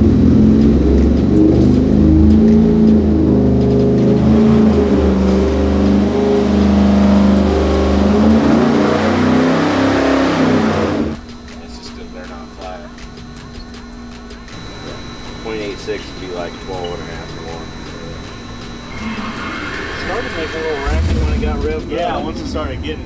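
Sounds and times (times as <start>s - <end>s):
engine at full throttle: 0.0s - 11.2s, 14.5s - 23.0s.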